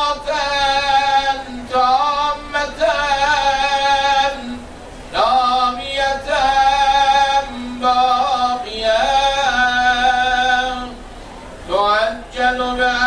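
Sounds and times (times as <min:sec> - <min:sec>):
man chanting a prayer: 0:00.0 - 0:11.0, 0:11.7 - 0:13.0.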